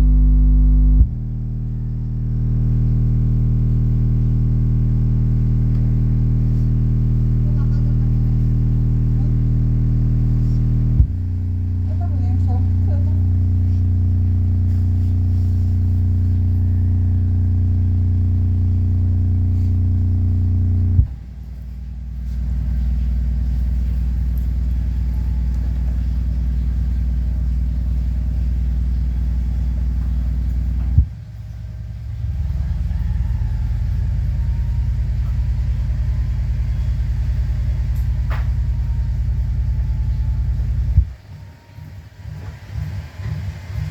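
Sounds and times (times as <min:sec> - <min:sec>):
subwoofer playing deep bass: 0:00.0 - 0:43.9.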